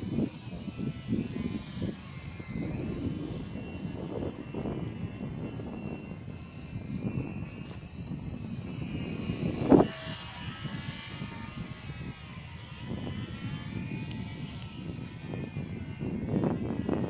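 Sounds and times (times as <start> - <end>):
model plane electric motor whine: 0.0 - 17.0
wind buffeting microphone: 0.0 - 17.0.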